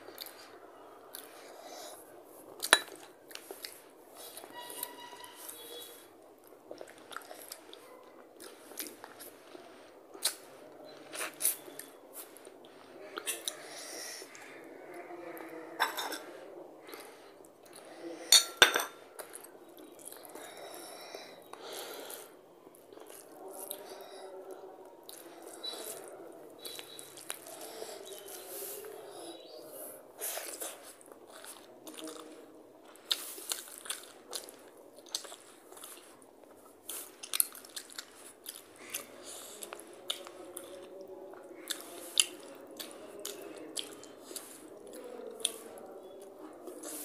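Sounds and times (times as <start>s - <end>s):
wet eating sounds: 6.3s - 18.0s, 19.2s - 47.0s.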